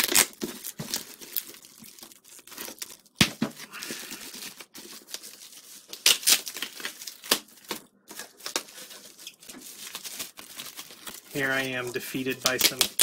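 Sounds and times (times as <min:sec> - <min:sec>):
foam wrap crinkling and tearing: 0:00.0 - 0:13.0.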